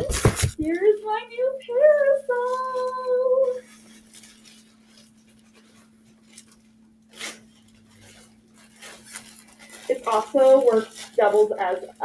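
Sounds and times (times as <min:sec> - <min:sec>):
parasol rustling: 0:01.8 - 0:12.0.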